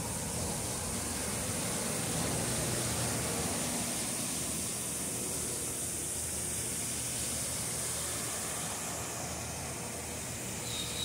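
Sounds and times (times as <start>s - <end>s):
waterfall hiss: 0.0s - 11.0s.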